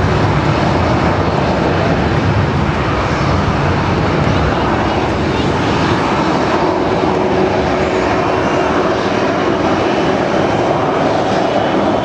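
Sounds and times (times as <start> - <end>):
jet engines at takeoff: 0.0 - 12.0.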